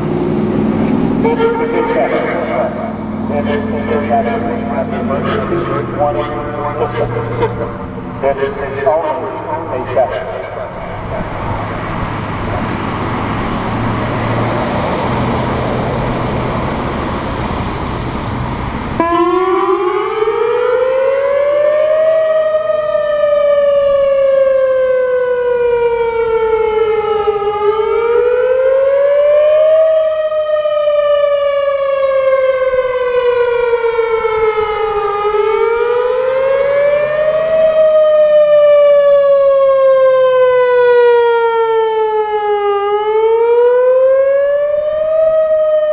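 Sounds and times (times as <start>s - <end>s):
warning siren wailing: 0.0s - 45.9s.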